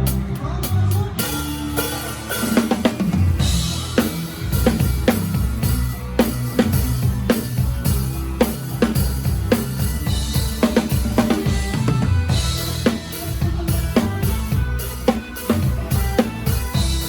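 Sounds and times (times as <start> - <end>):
drum kit playing a beat: 0.0 - 17.0
low bass line: 0.0 - 17.0.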